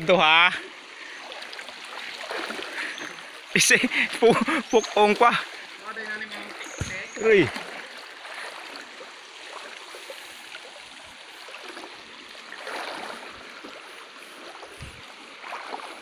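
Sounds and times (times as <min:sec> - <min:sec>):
river flowing over stones: 0:00.0 - 0:16.0.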